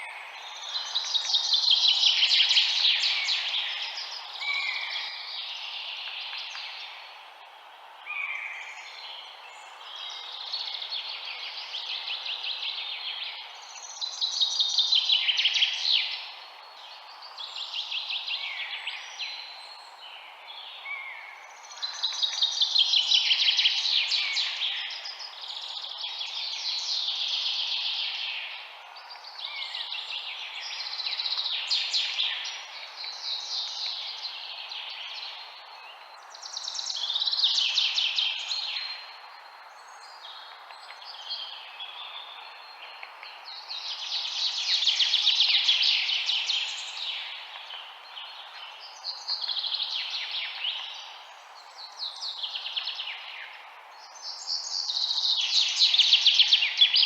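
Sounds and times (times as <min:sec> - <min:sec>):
low background hiss: 0:00.0 - 0:57.0.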